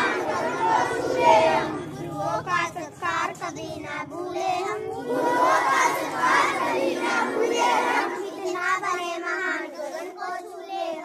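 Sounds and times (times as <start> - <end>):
children chanting in unison: 0.0 - 11.0.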